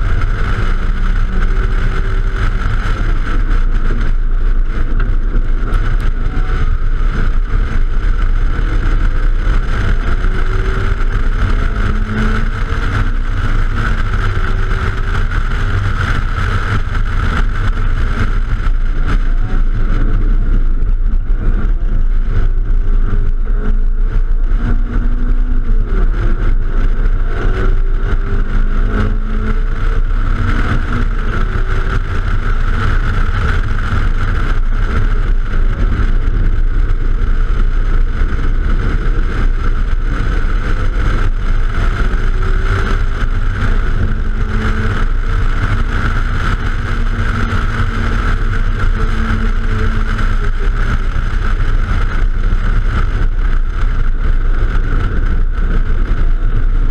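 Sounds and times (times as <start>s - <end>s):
car engine accelerating: 0.0s - 56.9s
wind rush on microphone: 0.0s - 56.9s.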